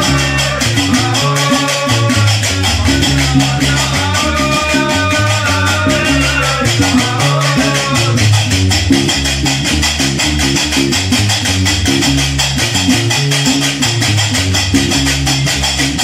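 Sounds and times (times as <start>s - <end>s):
plucked bass lute riff: 0.0s - 16.0s.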